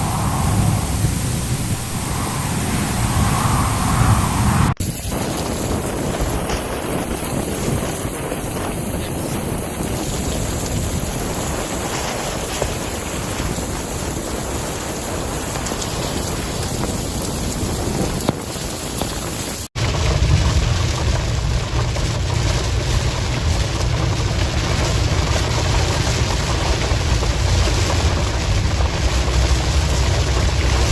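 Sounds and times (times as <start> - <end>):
deep rumble: 0.0 - 19.1, 19.8 - 30.9
heavy rain and wind: 0.0 - 30.9.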